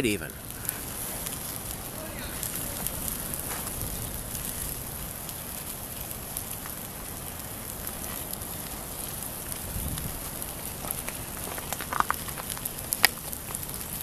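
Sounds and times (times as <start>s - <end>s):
fire pops and snaps: 0.0s - 14.0s
log fire crackling: 0.0s - 14.0s.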